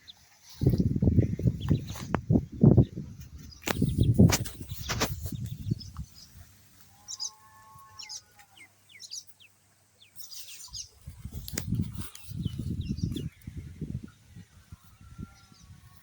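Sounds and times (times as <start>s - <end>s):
ducklings peeping: 0.1s - 16.0s.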